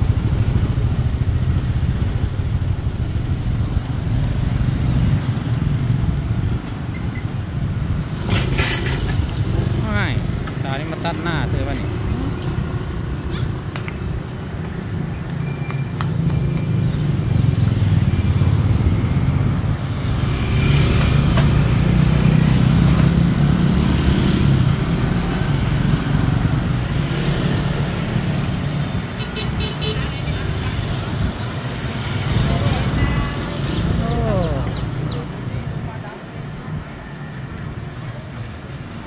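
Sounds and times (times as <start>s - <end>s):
low traffic rumble: 0.0s - 39.0s
motorbike and car engines: 0.0s - 39.0s.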